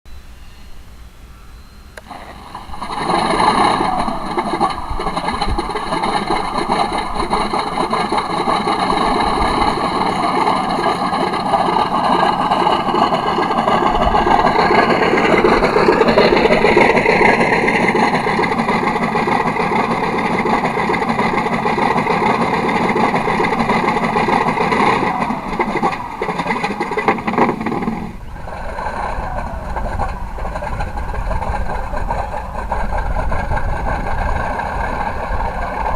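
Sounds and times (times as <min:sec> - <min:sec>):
simulated radial aircraft engine: 0:00.1 - 0:35.9.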